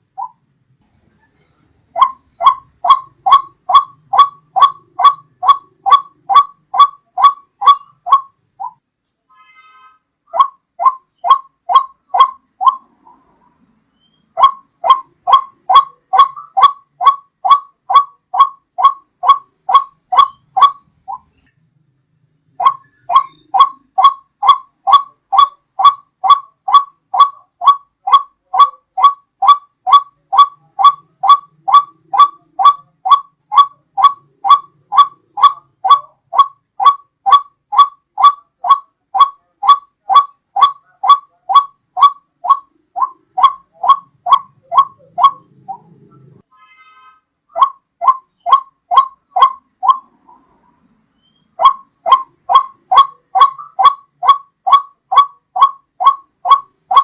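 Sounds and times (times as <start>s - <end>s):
waterhen calling: 1.9s - 8.8s, 10.3s - 13.3s, 14.0s - 21.5s, 22.5s - 46.4s, 47.5s - 50.6s, 51.2s - 57.0s.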